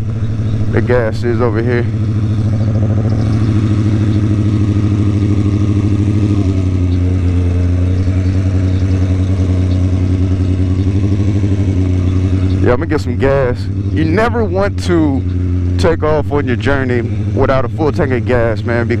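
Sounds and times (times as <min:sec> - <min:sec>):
motorcycle engine running at low revs: 0:00.0 - 0:19.0.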